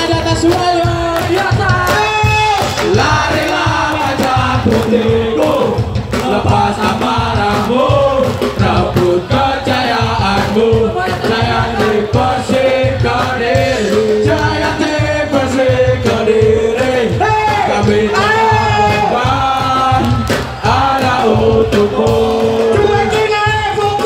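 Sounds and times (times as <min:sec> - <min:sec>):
ska band playing live: 0:00.0 - 0:24.0
steady drum beat: 0:00.0 - 0:24.0.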